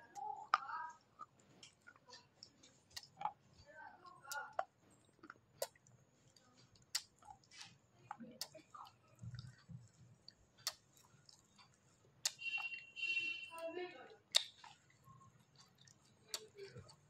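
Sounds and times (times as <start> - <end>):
chewing and crunching: 0.0 - 12.8, 14.1 - 17.0.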